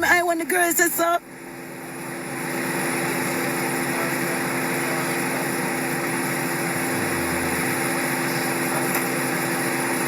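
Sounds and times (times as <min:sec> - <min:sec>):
motor hum with rushing hiss: 0:00.0 - 0:10.0.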